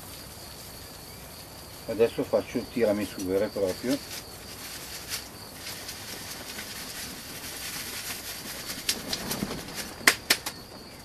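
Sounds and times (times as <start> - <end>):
compost sifting rustle: 0.0 - 11.0.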